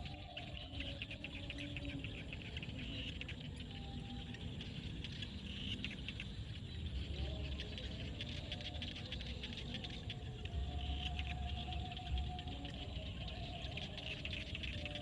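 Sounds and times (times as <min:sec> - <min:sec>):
frogs clicking chorus: 0:00.0 - 0:15.0
lower-pitched frog calls: 0:00.0 - 0:15.0.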